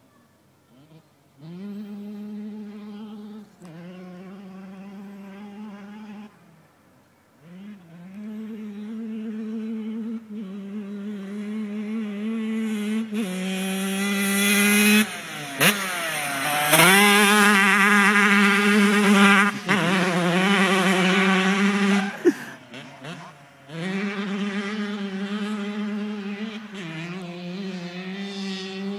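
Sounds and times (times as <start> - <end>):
motocross bike engine revving: 0.7 - 6.6, 7.4 - 28.9.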